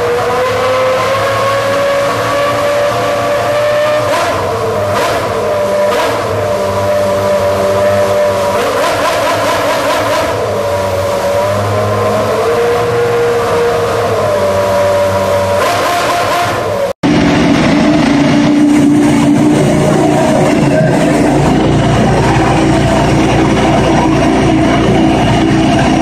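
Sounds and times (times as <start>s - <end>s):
racing car engine running loud: 0.0s - 26.0s.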